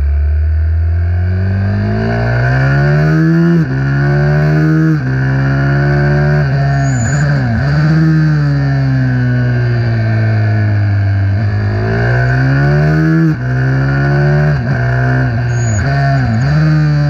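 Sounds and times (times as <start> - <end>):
minibike engine revving: 1.6 - 17.0.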